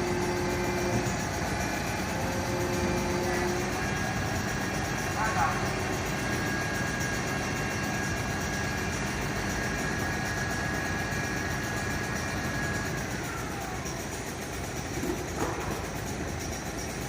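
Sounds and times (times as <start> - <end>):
fire truck engine idling: 0.0 - 17.0
high-pitched whine: 0.0 - 17.0.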